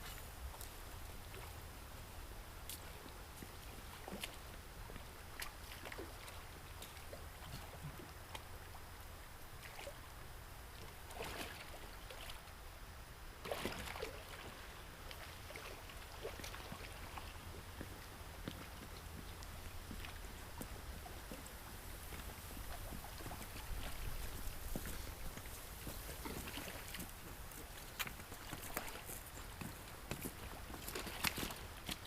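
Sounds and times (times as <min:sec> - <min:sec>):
water splashing around kayak: 0:00.0 - 0:32.0.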